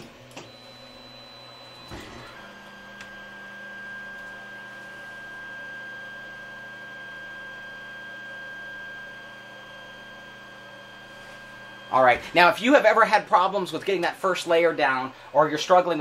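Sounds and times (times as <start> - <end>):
stepper motors whining: 0.0 - 14.5.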